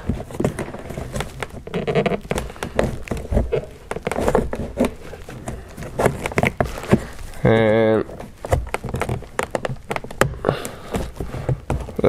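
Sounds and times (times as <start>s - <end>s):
plastic trim creaking: 0.0s - 12.0s.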